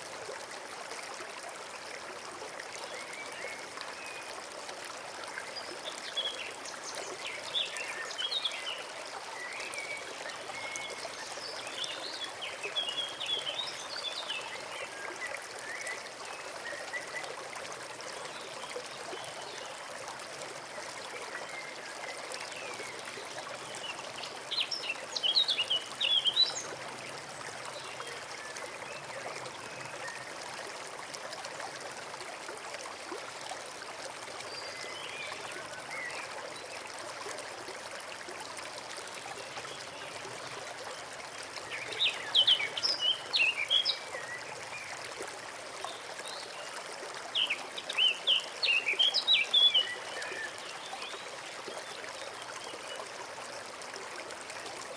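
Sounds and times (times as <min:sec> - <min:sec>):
stream trickling and babbling: 0:00.0 - 0:54.9.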